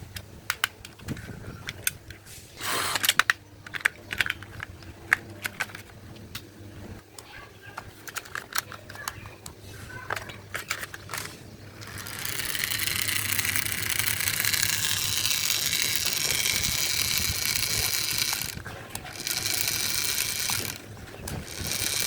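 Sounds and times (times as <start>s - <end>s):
toy motor whirring: 2.6s - 5.9s, 7.2s - 22.0s
plastic clicks: 2.9s - 6.5s, 7.2s - 22.0s.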